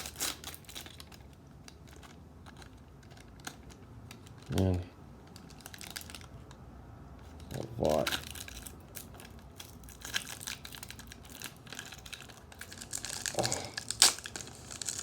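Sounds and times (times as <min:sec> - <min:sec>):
pack wrapper crinkling: 0:00.0 - 0:06.6, 0:07.3 - 0:15.0.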